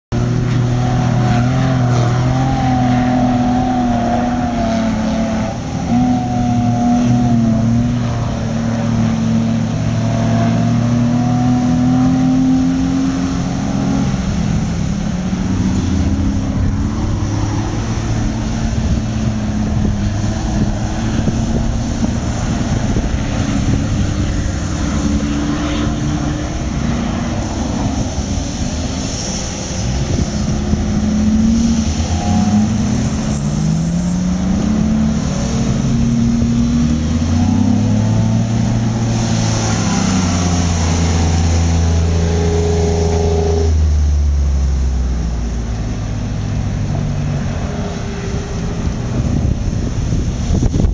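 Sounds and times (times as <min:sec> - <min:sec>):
engine running under load: 0:00.1 - 0:50.9.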